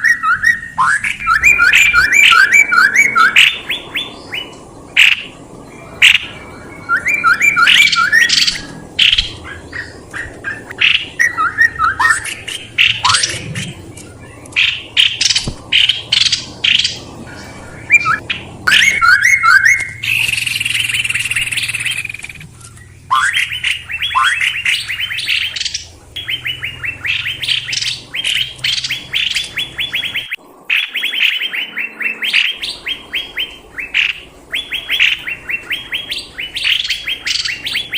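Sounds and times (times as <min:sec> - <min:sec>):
songbird chirping and calls: 0:00.0 - 0:37.9.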